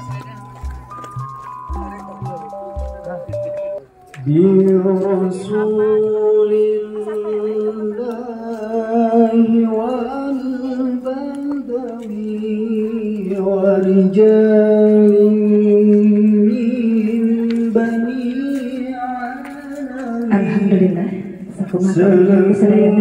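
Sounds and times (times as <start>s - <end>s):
person singing chant-like melody: 1.7s - 23.0s.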